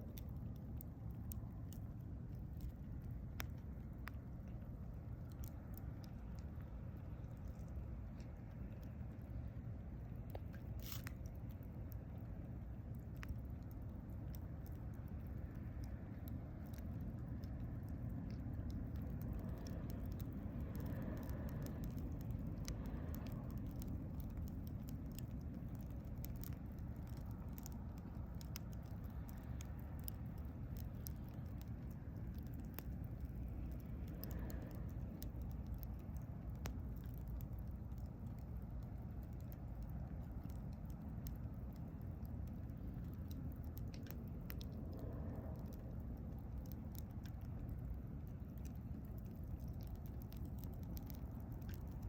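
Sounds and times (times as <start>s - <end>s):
steady low rumble: 0.0s - 52.0s
wood fire crackling: 0.0s - 52.0s.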